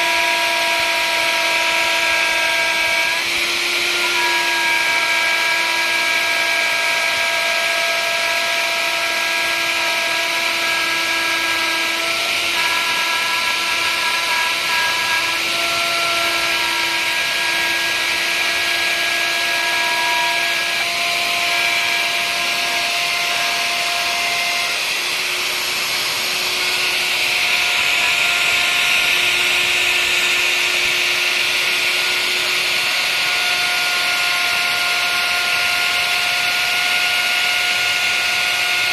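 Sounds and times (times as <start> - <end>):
router cutting wood whine: 0.0 - 38.9.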